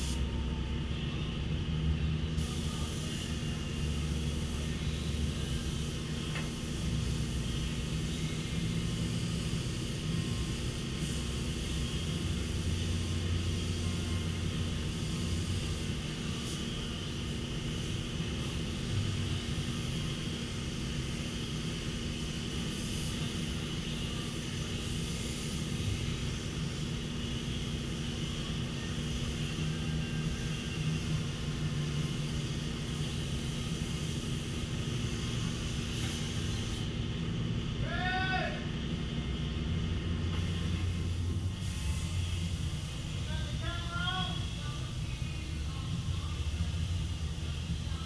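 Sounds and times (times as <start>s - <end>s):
steady engine drone: 0.0s - 48.0s.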